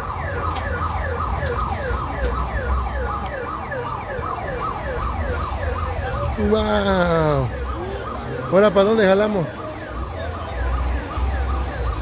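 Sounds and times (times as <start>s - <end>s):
fairground rumble: 0.0s - 12.0s
siren-like electronic wail: 0.0s - 12.0s.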